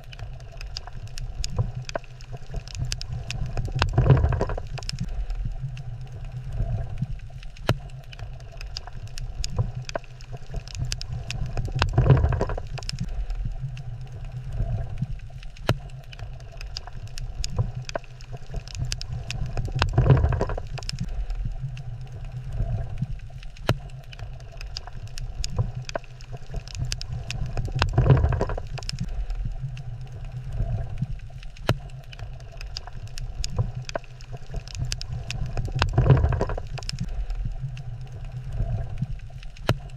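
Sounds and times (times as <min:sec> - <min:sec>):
low rumble of moving water: 0:00.0 - 0:39.9
sharp clicks and crackles: 0:00.0 - 0:39.9.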